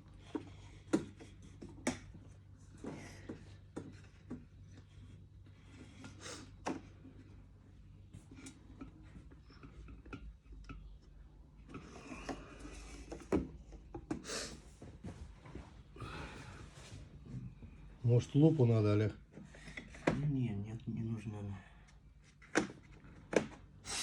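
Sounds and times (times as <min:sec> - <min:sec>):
low steady hum: 0:00.0 - 0:23.8.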